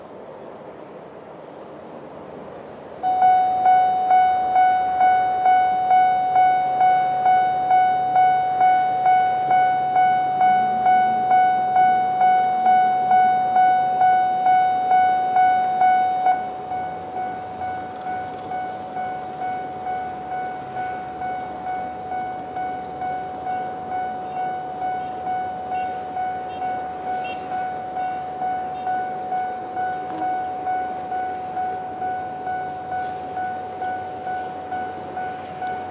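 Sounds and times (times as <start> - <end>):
level crossing alarm dinging: 3.0 - 35.9.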